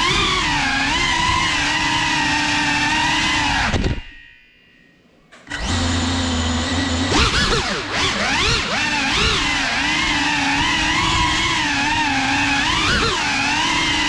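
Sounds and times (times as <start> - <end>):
quadcopter motors whining: 0.0 - 4.0, 5.5 - 14.0.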